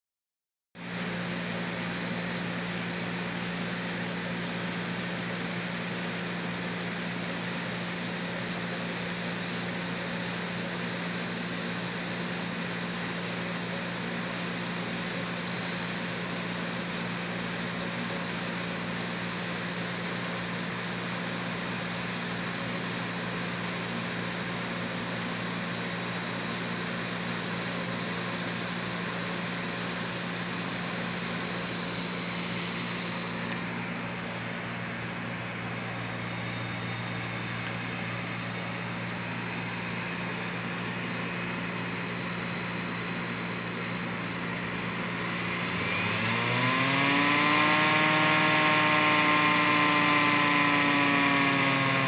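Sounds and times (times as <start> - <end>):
hard drive motor whine: 0.8 - 52.0
low hum: 6.7 - 51.9.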